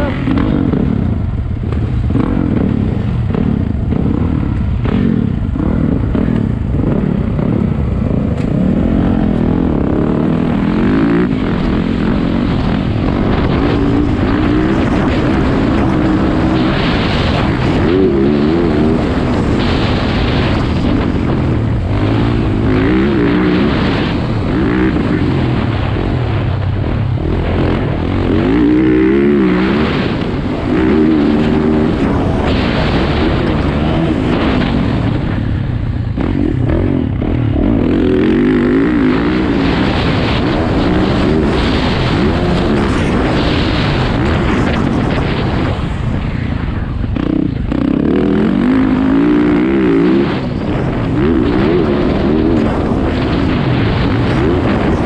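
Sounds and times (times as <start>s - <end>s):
dirt bike engine revving: 0.0s - 55.0s
wind noise: 0.0s - 55.0s.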